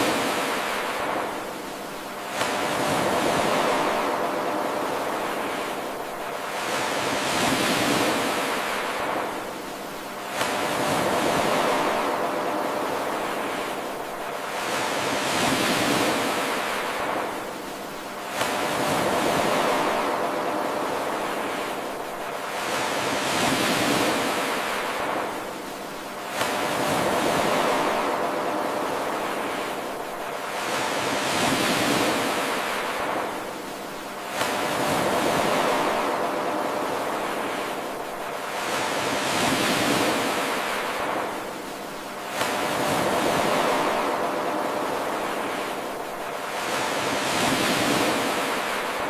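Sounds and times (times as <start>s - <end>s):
ocean surf washing ashore: 0.0s - 49.0s.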